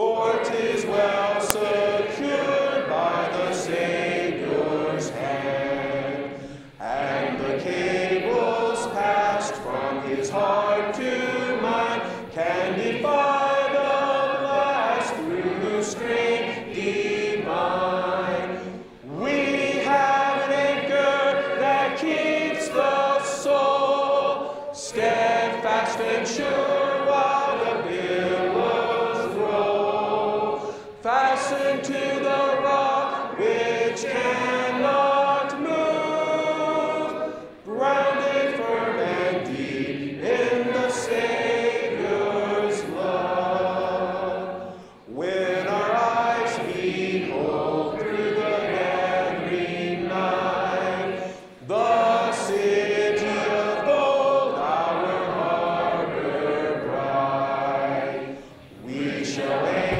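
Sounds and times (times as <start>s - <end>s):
congregation singing a hymn: 0.0s - 59.9s.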